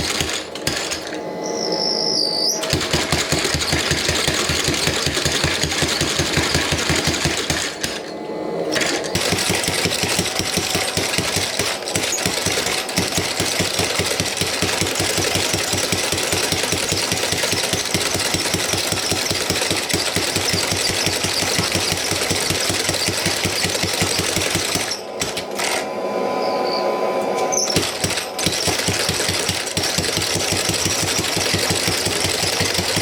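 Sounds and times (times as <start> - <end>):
power hammer pounding metal: 0.0 - 1.4, 2.6 - 25.9, 27.5 - 33.0.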